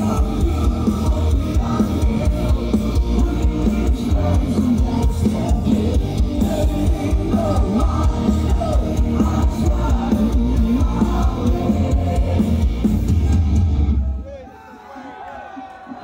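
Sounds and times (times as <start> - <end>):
live metal band playing: 0.0 - 14.2.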